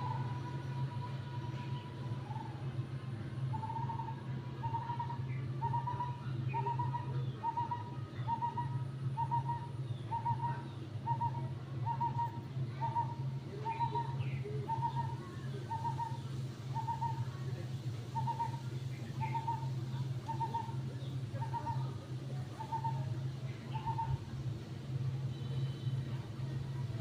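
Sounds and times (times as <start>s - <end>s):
bird hooting: 0.0s - 24.3s
birds chirping: 0.0s - 27.0s
steady low hum: 0.0s - 27.0s.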